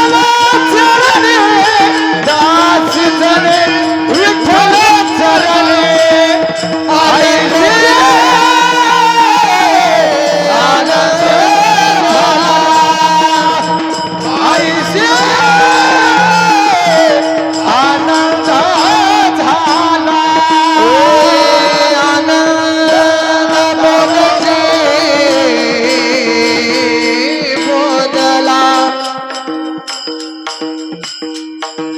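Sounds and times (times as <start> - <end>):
man singing devotional melody: 0.0 - 31.9.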